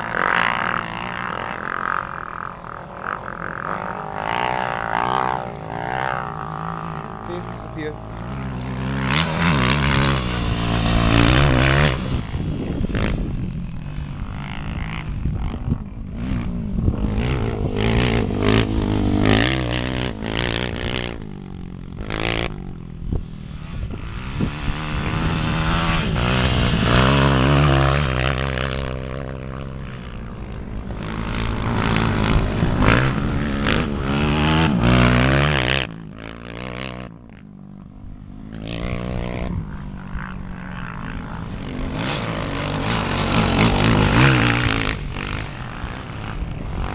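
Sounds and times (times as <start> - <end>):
off-road motorcycle engine revving: 0.0 - 46.9.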